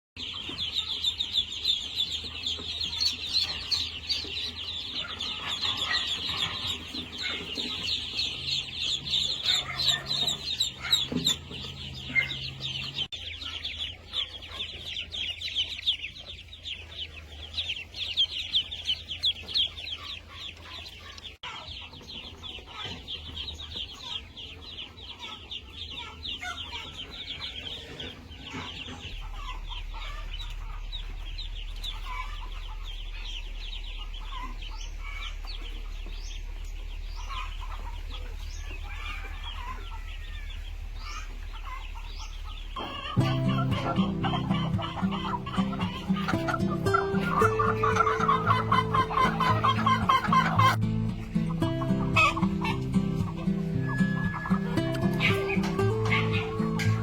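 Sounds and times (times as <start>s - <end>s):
chickens chirping: 0.2s - 57.0s
chickens clucking: 0.2s - 57.0s.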